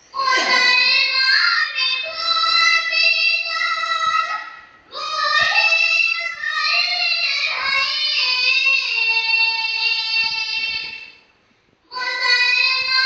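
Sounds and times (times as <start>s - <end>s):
girl singing unaccompanied: 0.0s - 11.3s, 11.9s - 13.0s.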